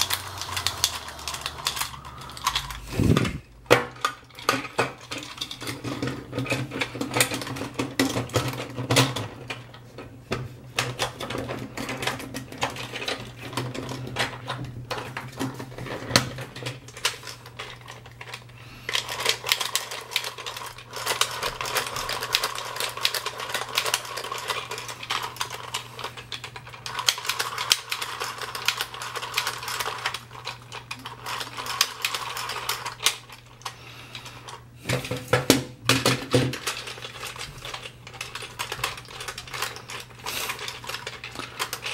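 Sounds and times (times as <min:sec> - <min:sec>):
plastic toy clicking and clattering: 0:00.0 - 0:41.9.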